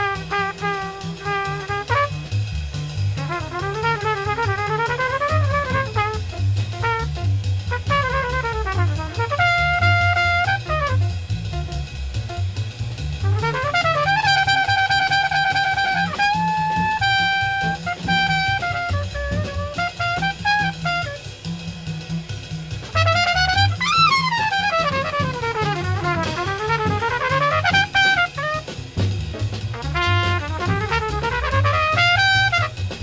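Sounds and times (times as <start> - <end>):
trumpet melody with bends: 0.0 - 12.5, 13.2 - 21.4, 22.9 - 29.1, 29.7 - 33.0
drums: 0.0 - 33.0
jazz band playing blues: 0.0 - 33.0
walking bass: 0.0 - 33.0.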